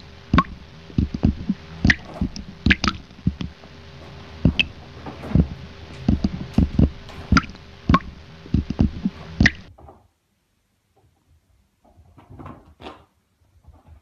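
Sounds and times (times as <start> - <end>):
steady hiss: 0.0 - 11.8.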